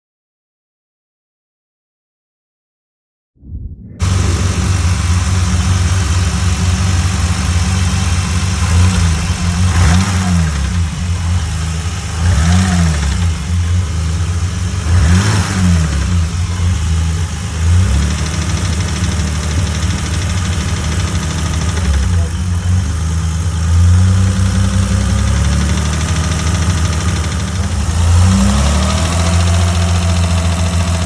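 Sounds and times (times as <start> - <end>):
car engine revving: 3.8 - 22.8, 23.5 - 31.0.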